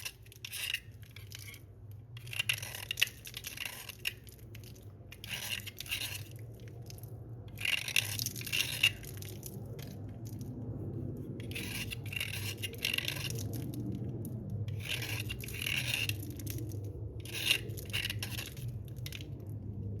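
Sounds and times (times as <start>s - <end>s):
slate pencils scraping: 0.0s - 10.5s, 11.4s - 13.8s, 14.7s - 19.4s
steady low hum: 0.0s - 20.0s.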